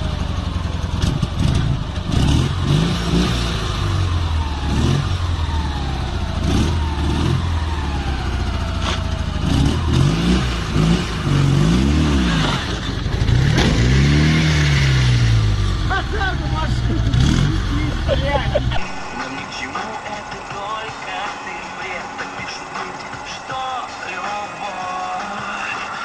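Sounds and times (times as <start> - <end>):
car engine running: 0.0 - 26.0
road noise: 0.0 - 26.0.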